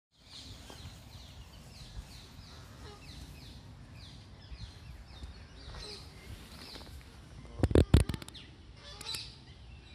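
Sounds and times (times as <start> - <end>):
bird chirping: 0.1 - 9.9.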